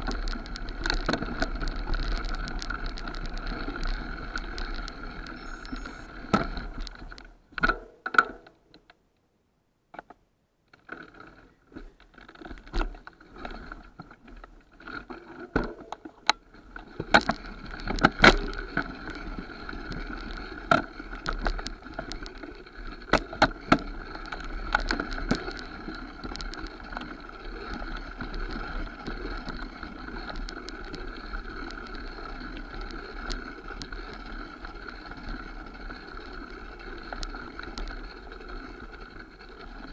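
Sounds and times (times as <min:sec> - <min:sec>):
bike tyres rumbling on dirt: 0:00.0 - 0:07.5, 0:10.8 - 0:39.9.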